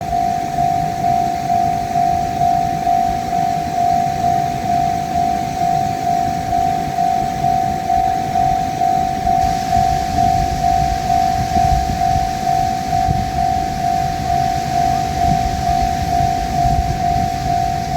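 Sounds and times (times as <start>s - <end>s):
level-crossing warning bell: 0.0s - 17.9s.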